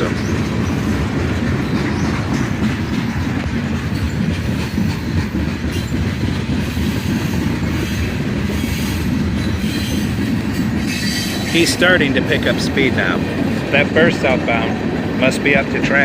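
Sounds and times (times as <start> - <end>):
train wheels clacking over rail joints: 0.0 - 16.0.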